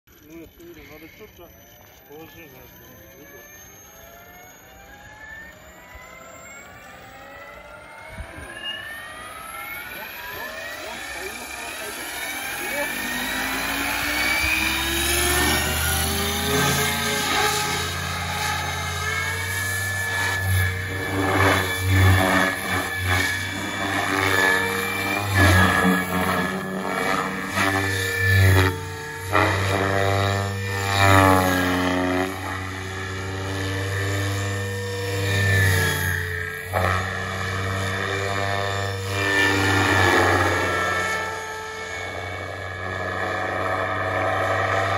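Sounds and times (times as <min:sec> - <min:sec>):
rc helicopter motor whine: 0:00.1 - 0:44.9.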